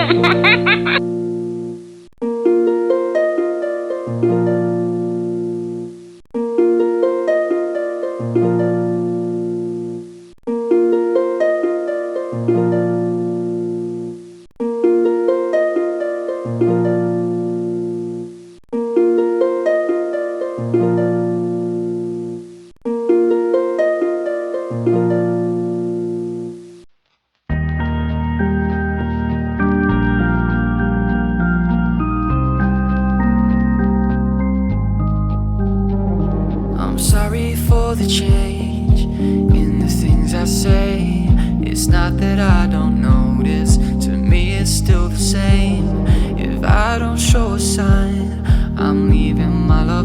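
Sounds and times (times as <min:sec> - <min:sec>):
looped background melody: 0:00.0 - 0:26.9, 0:27.5 - 0:50.0.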